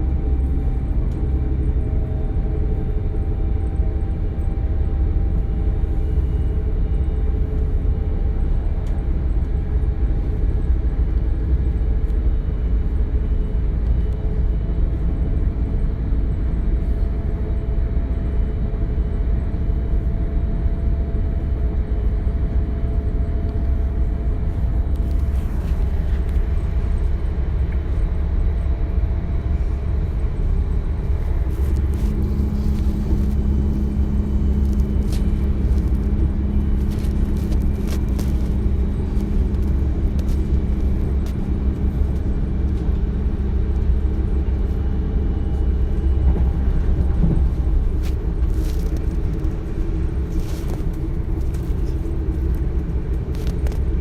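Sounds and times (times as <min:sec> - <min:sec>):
steady hum: 0:00.0 - 0:54.0
train rumbling on track: 0:00.0 - 0:54.0.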